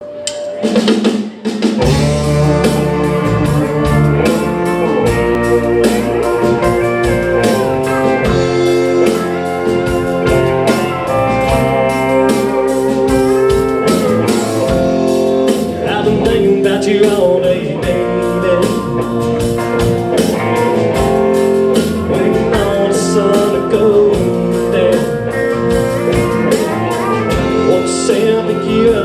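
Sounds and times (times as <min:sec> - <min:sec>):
live blues band playing: 0:00.0 - 0:29.0.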